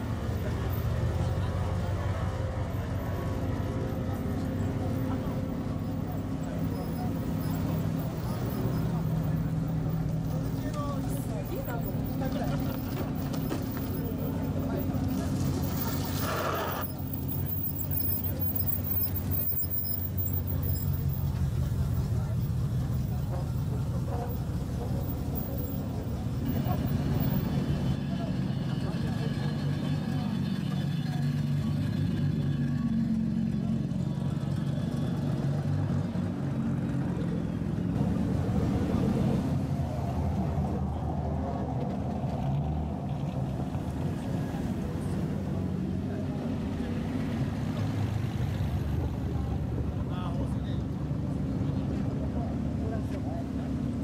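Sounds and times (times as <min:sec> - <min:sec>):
cars driving slowly past: 0:00.0 - 0:54.0
truck engine at low revs: 0:00.0 - 0:54.0.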